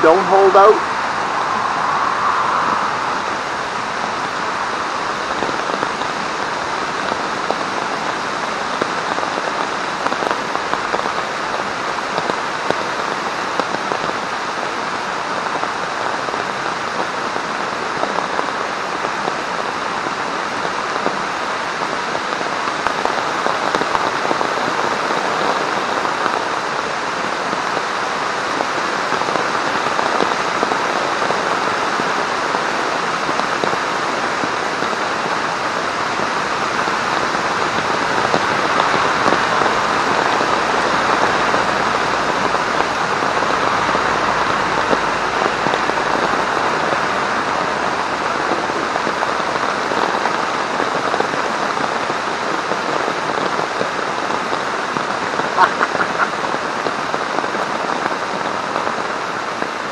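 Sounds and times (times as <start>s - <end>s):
heavy rain on a tarp: 0.0s - 59.9s.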